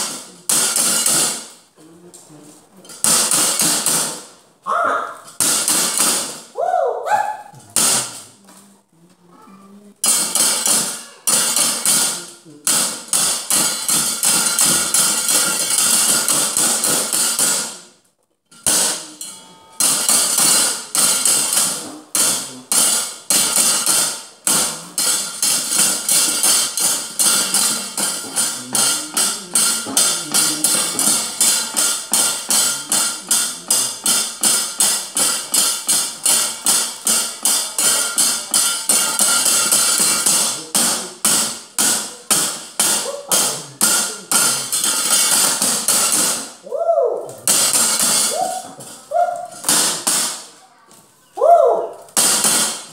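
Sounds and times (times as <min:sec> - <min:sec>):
metal plates clanging: 0:00.0 - 0:01.8, 0:02.5 - 0:04.5, 0:07.6 - 0:08.4, 0:10.0 - 0:46.6, 0:47.4 - 0:50.5.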